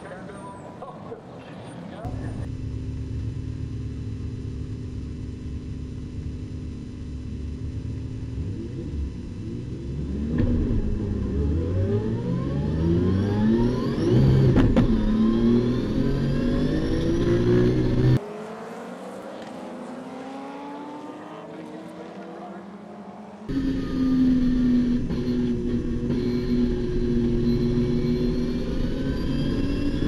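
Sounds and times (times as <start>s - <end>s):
race car engines: 0.0s - 30.0s
car engine idling and revving: 1.9s - 30.0s.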